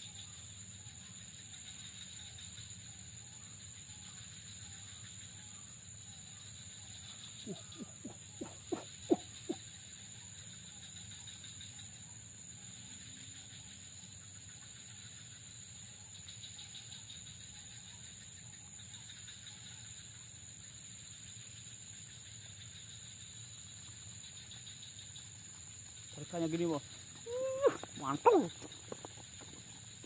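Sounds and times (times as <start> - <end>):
insect chorus buzzing and trilling: 0.0 - 30.0.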